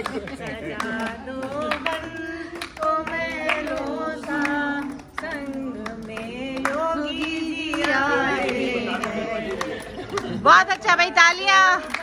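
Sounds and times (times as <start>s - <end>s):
group singing: 0.0s - 12.0s
hands clapping: 0.0s - 12.0s.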